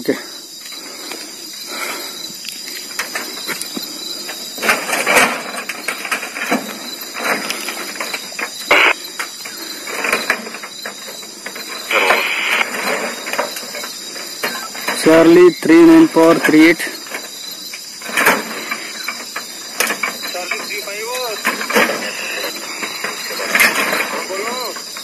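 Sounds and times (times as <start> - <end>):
insects droning: 0.0 - 25.0
rustling with small clicks: 2.3 - 15.4, 16.4 - 25.0.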